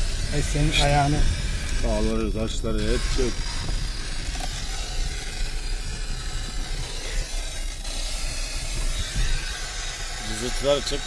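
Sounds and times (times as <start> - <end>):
engine and tyres rumbling: 0.0 - 11.0.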